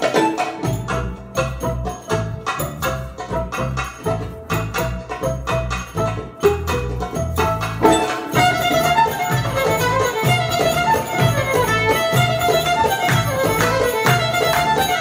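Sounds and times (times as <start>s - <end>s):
acoustic belly-dance music: 0.0s - 15.0s
violin melody: 0.0s - 15.0s.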